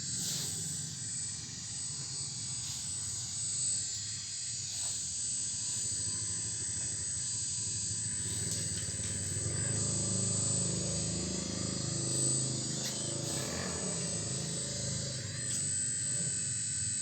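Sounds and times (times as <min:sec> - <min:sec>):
toy excavator motors whining: 0:00.0 - 0:17.0.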